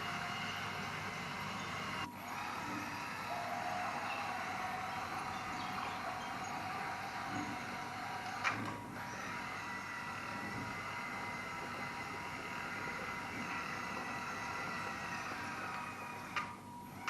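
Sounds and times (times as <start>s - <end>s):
hydraulic pump and motors whining: 0.0s - 17.0s.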